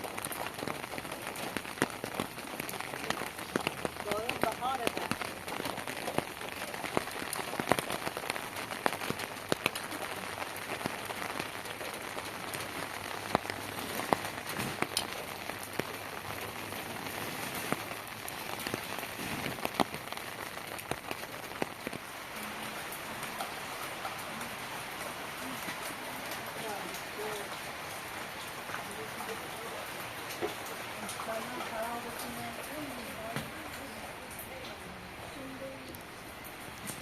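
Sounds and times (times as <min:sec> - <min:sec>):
heavy rain falling: 0:00.0 - 0:37.0
raindrops ticking sharply: 0:00.0 - 0:37.0.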